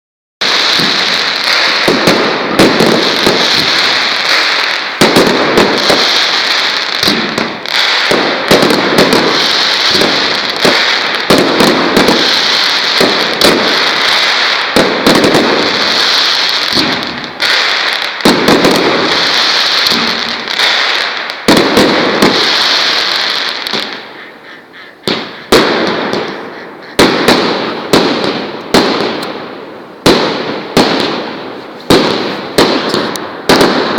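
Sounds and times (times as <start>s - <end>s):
firework bangs: 0.4s - 33.9s.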